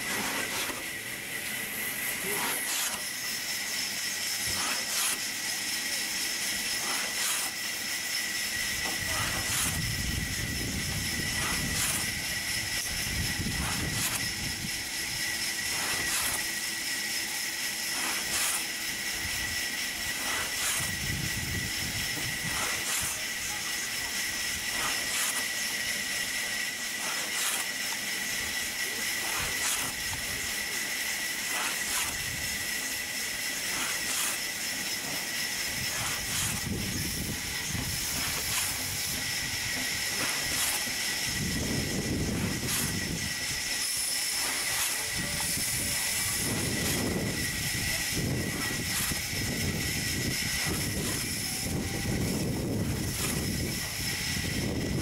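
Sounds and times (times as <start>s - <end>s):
hand saw rasping through log: 0.0s - 55.0s.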